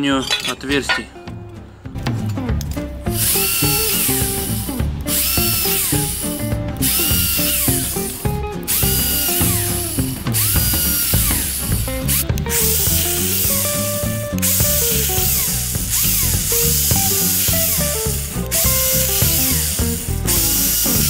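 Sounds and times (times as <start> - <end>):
electric drill boring through steel: 3.1 - 21.0.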